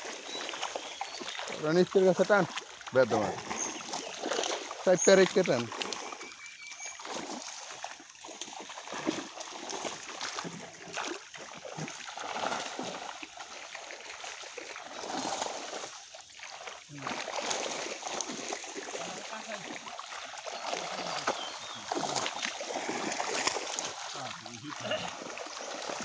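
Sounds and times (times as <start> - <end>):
water splashing and churning: 0.0 - 26.0.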